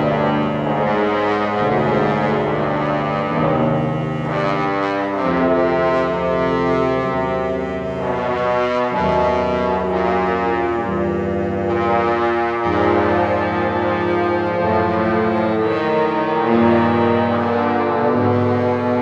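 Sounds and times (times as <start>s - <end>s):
wind band playing brass chords: 0.0s - 19.0s.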